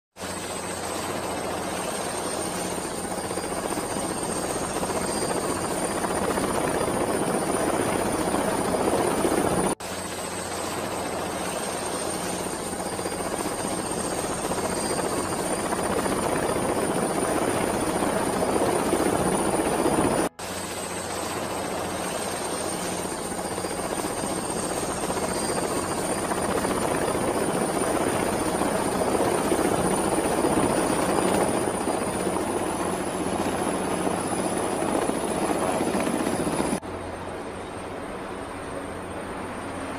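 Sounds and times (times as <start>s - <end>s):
helicopter rotor and engine: 0.2s - 39.9s
turbine whine: 0.2s - 39.9s.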